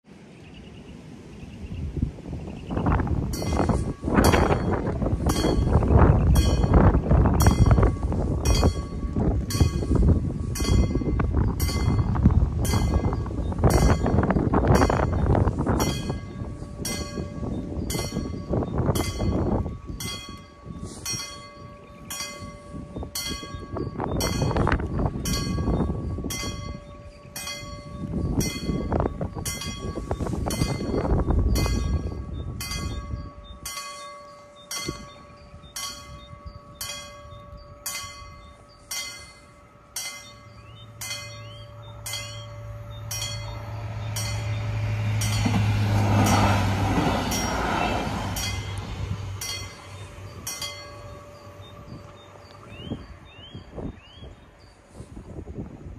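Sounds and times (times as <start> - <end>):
wind rumbling on microphone: 0.0 - 55.9
diesel train engine drone: 2.2 - 55.9
level crossing bells ringing: 3.3 - 45.6, 46.2 - 53.3.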